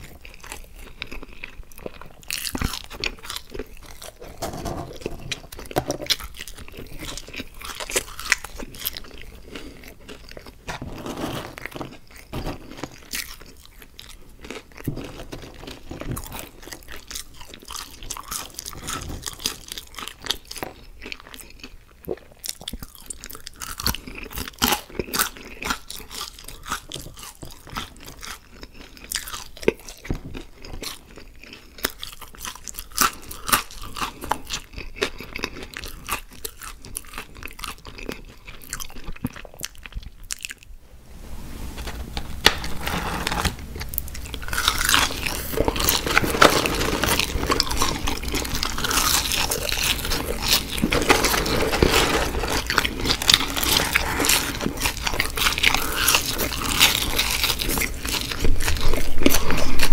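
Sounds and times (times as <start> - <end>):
mouth chewing fries: 0.0 - 40.8, 43.1 - 59.9.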